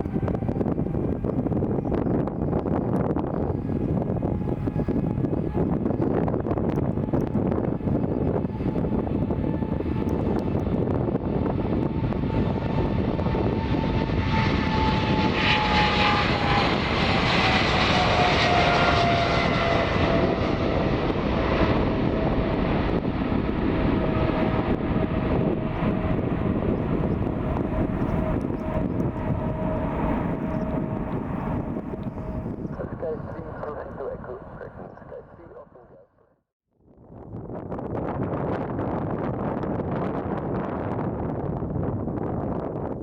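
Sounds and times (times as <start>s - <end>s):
jet engines roaring past: 0.0s - 36.0s.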